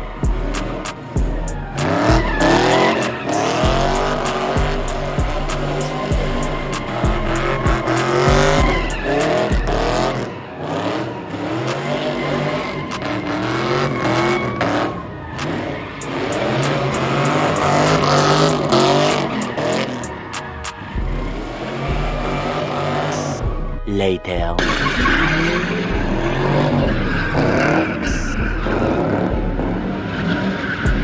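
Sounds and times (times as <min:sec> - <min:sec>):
car engine revving: 0:00.0 - 0:23.9, 0:24.6 - 0:31.0.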